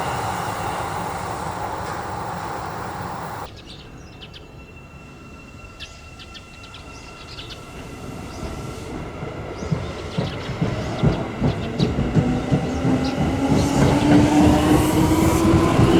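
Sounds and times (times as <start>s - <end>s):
birds chirping: 0.0s - 4.6s, 5.8s - 15.9s
approaching electric train rumble: 0.0s - 15.9s
train running past: 0.0s - 15.9s.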